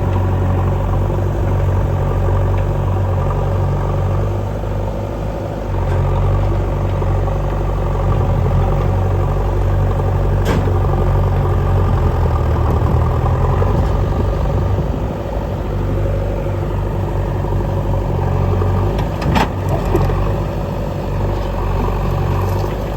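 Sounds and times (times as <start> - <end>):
engine humming: 0.0 - 22.9.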